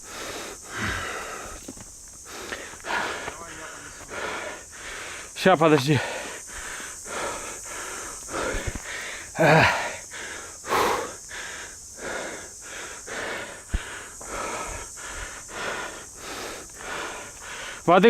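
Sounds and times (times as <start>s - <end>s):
person gasping: 0.0s - 1.6s, 2.2s - 5.3s, 6.0s - 17.9s
person panting heavily: 0.0s - 17.9s.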